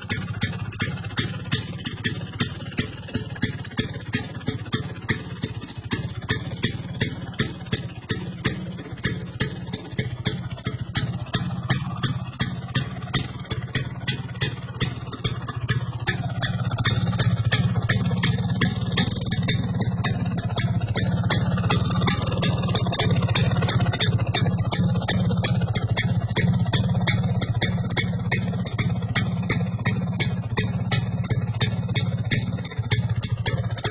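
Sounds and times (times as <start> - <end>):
scooter engine idling: 0.0 - 33.9.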